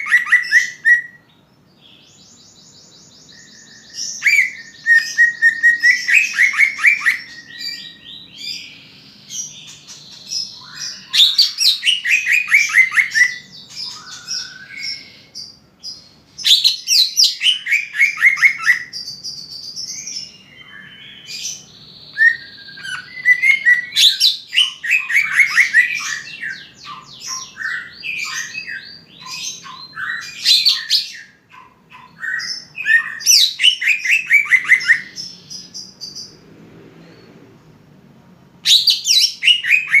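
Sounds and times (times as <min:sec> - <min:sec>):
bird singing whistled notes: 0:00.0 - 0:36.4, 0:38.6 - 0:40.0.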